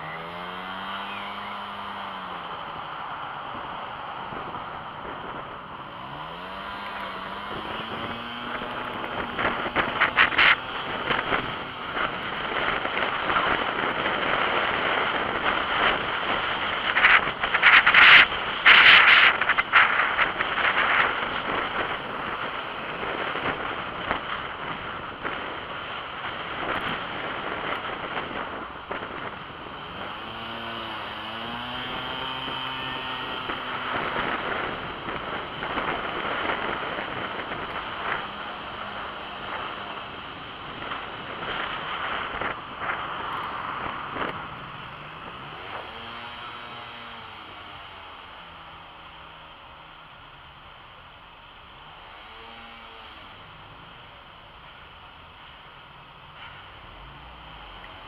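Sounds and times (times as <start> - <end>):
small engine accelerating: 0.0 - 2.9, 5.2 - 24.0, 26.6 - 49.4, 51.8 - 54.0
wind and road noise: 0.0 - 58.0
wind buffeting microphone: 0.1 - 47.0.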